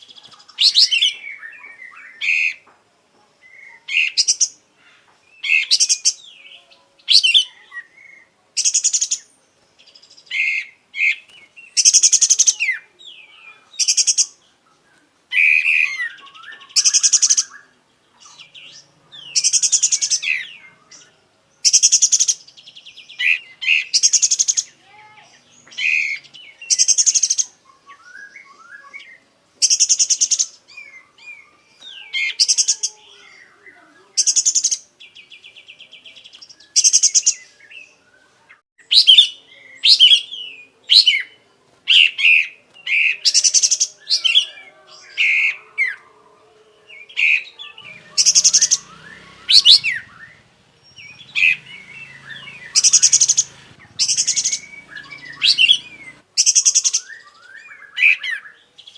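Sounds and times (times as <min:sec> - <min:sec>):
songbird singing trills and whistles: 0:00.0 - 0:02.7, 0:03.4 - 0:46.2, 0:46.8 - 0:58.9.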